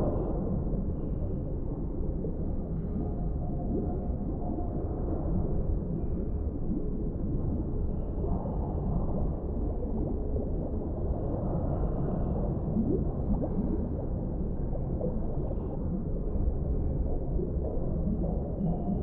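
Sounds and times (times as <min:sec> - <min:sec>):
faint water gurgles: 0:00.0 - 0:19.0
muffled underwater rumble: 0:00.0 - 0:19.0.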